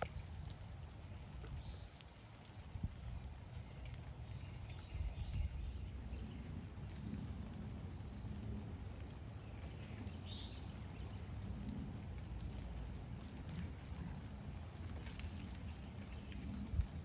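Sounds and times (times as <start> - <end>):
steady low rumble: 2.6 - 17.0.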